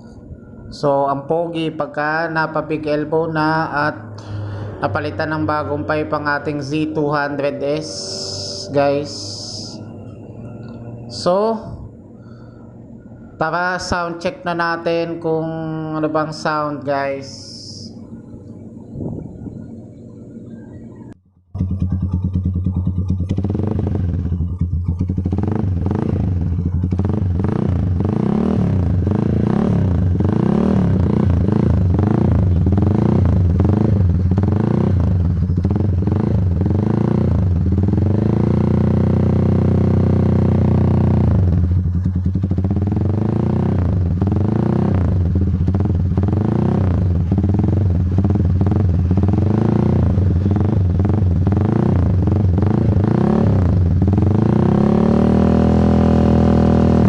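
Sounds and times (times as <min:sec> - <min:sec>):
motorcycle engine revving: 0:02.4 - 0:13.4, 0:17.6 - 0:57.0.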